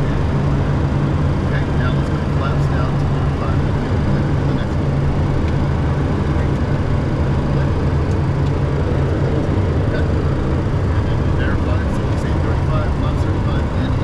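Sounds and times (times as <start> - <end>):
low jet engine hum: 0.0 - 14.0.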